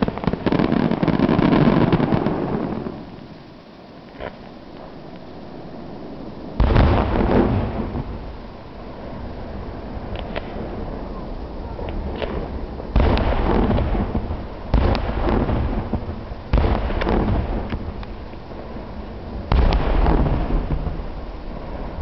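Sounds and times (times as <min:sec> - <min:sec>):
fireworks booming: 0:00.0 - 0:03.6, 0:06.5 - 0:22.0
fireworks crackles: 0:00.0 - 0:22.0.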